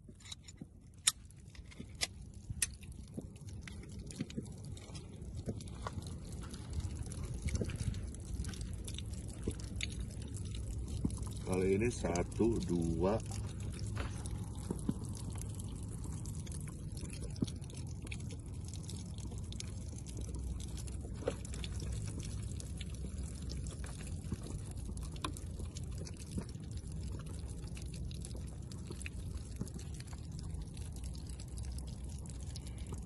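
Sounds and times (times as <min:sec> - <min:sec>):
steady low rumble: 0:00.0 - 0:33.0
water sloshing in jugs: 0:00.0 - 0:33.0.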